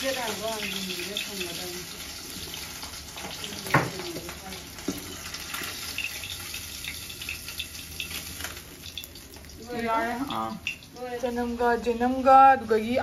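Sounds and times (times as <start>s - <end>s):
oil crackling: 0.0s - 11.9s
fish sizzling in oil: 0.0s - 12.9s.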